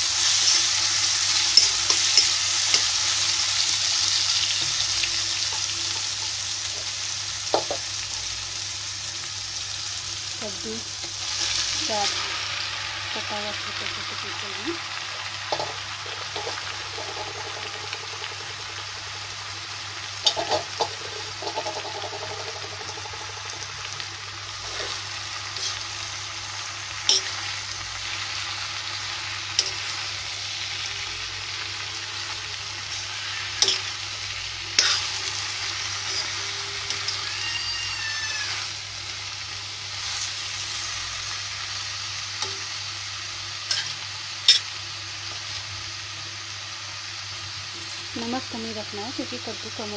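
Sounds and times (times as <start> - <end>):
food sizzling in hot fat: 0.0 - 49.9.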